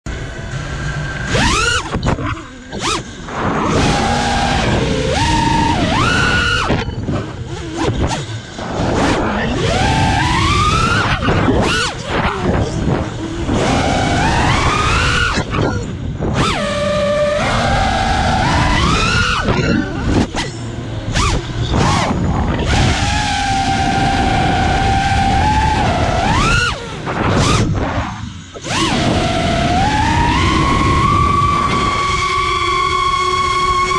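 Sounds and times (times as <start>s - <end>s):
wind rushing past camera: 0.1s - 32.6s
quadcopter motors whining: 0.1s - 33.9s.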